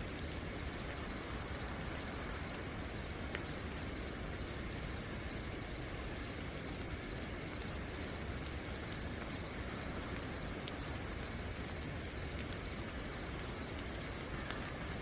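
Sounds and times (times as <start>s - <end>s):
crickets chirping: 0.0s - 15.0s
rain hissing: 0.0s - 15.0s.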